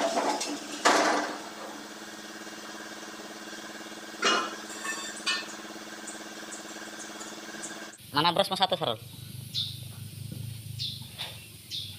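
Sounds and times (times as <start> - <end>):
machine humming: 0.1 - 11.9.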